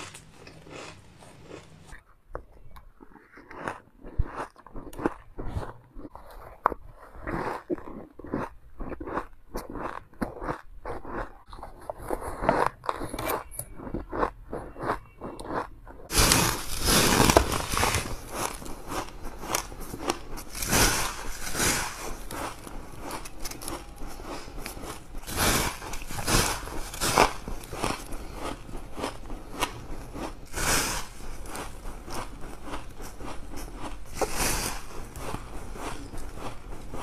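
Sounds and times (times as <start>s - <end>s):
ice crunching in teeth: 2.9s - 37.0s.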